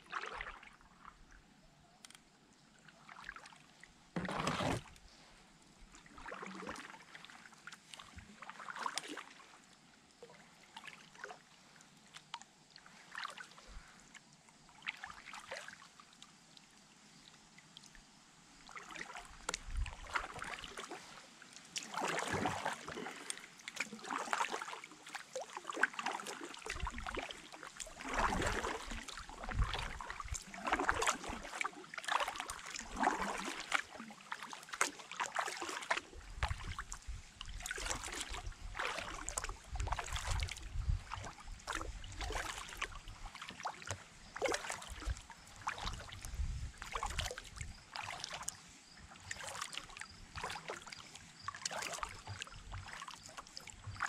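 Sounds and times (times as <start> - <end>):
paddle splashing water: 0.0 - 1.4, 2.0 - 16.7, 18.6 - 54.0.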